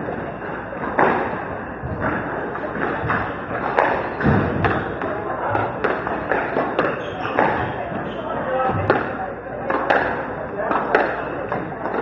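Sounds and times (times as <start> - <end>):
squash ball hitting rackets and walls: 0.0 - 12.0.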